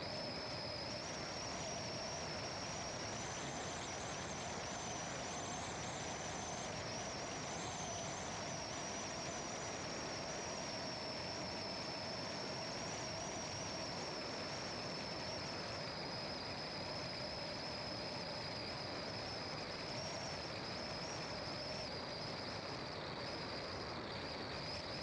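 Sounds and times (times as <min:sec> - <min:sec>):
high-pitched whine: 0:00.0 - 0:25.0.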